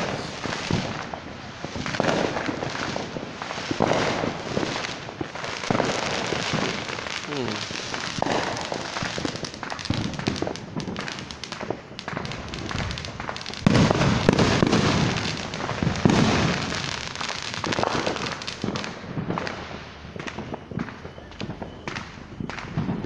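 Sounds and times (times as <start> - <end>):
fireworks crackling pops: 0.0 - 23.0.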